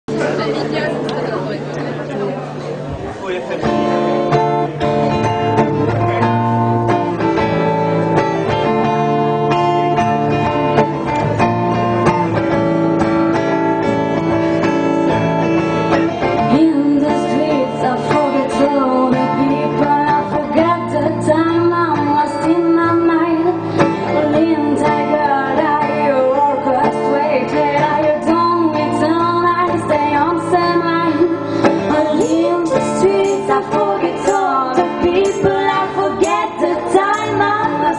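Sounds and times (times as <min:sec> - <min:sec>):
band playing guitar-led instrumental: 0:00.1 - 0:37.9.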